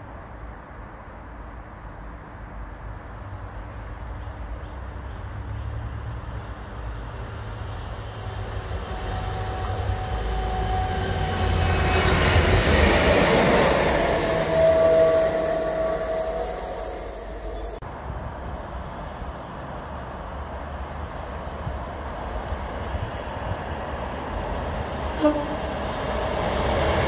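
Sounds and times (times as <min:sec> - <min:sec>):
diesel locomotive engines rumbling: 0:01.2 - 0:27.0.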